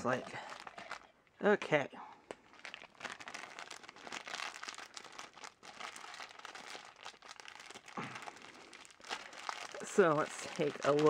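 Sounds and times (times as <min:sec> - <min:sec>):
plastic wrapping crinkling: 0:00.0 - 0:01.2, 0:02.3 - 0:11.0.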